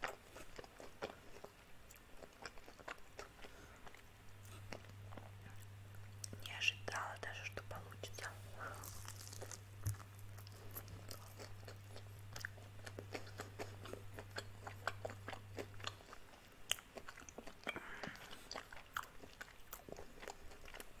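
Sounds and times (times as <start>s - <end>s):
crunchy chewing of fried chicken: 0.0s - 6.5s, 7.6s - 21.0s.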